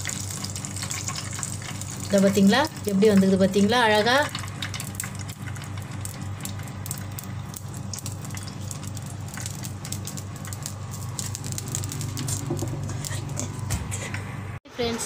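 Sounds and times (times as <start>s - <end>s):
oil sizzling and popping: 0.0s - 14.1s
low steady hum: 0.0s - 15.0s.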